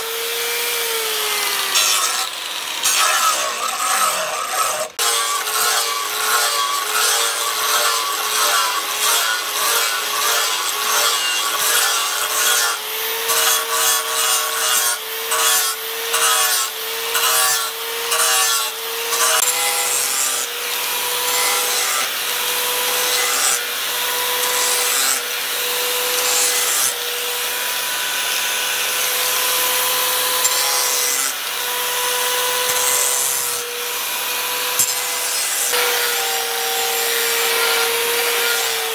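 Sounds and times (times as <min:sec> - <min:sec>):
hand tool rasping: 0:00.0 - 0:38.9.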